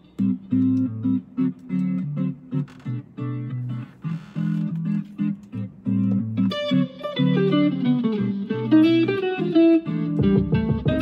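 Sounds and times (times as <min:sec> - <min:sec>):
electric guitar playing: 0:00.0 - 0:11.0.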